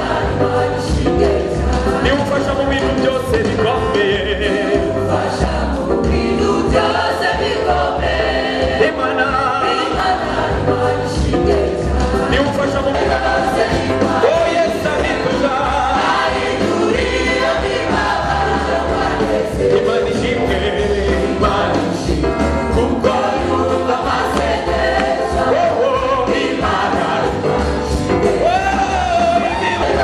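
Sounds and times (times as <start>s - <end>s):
amplified choir singing: 0.0s - 30.0s.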